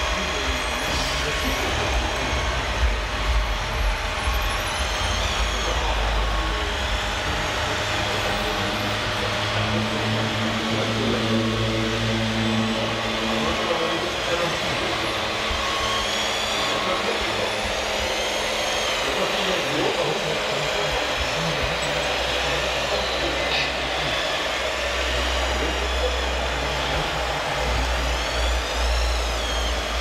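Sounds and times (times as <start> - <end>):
babble of voices: 0.0 - 30.0
hydraulic drive hum and whine: 0.0 - 30.0.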